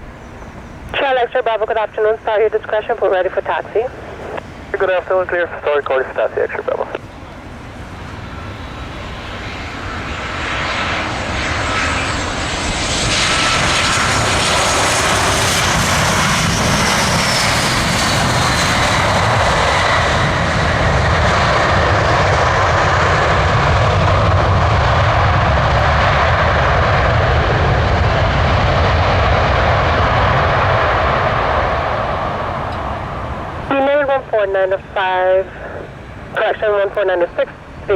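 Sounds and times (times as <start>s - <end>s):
jet engines high whine: 0.0s - 37.9s
loud steady jet engine noise: 0.0s - 37.9s.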